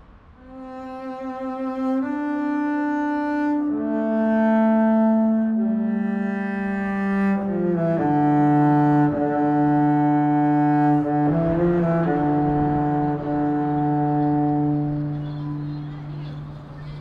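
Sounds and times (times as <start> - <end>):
low bowed strings melody: 0.3 - 17.0.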